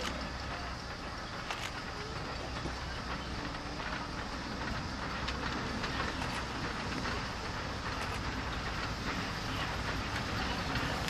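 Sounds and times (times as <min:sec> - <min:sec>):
steam locomotive rumble: 0:00.0 - 0:11.0.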